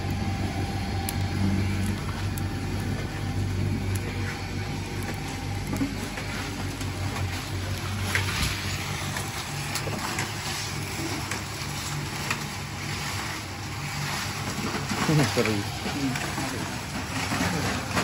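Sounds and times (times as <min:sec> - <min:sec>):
small diesel engine running: 0:00.0 - 0:18.0.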